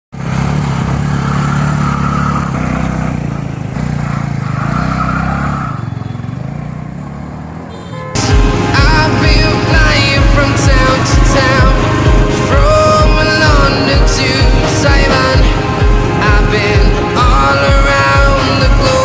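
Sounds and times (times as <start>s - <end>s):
motorcycle engine running: 0.2s - 19.0s.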